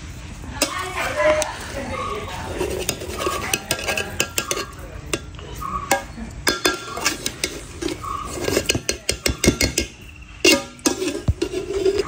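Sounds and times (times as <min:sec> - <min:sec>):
ladle scraping through rice: 0:00.6 - 0:12.0
ladle clinking against pot: 0:02.0 - 0:12.0.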